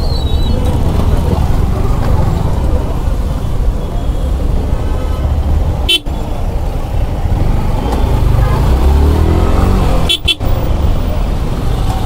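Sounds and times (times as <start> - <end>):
low rumble of traffic engines: 0.0 - 12.0.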